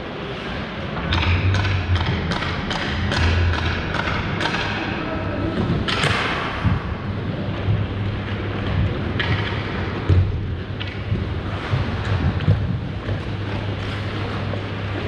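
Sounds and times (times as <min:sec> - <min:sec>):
low hum: 0:00.0 - 0:15.0
sharp echoing knocks: 0:01.0 - 0:13.2.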